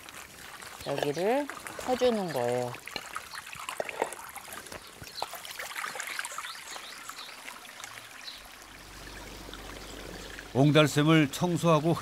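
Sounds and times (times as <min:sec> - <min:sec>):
water drips: 0:00.0 - 0:12.0
water trickling and splashing: 0:00.0 - 0:12.0.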